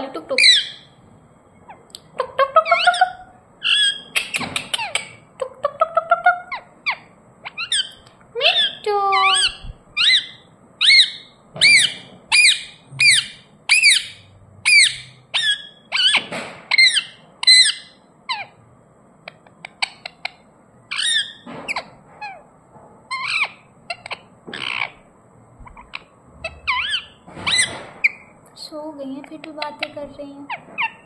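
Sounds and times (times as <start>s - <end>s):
parakeet chirping calls: 0.2s - 1.0s, 1.6s - 18.6s, 19.2s - 22.5s, 23.1s - 28.4s, 29.3s - 31.0s.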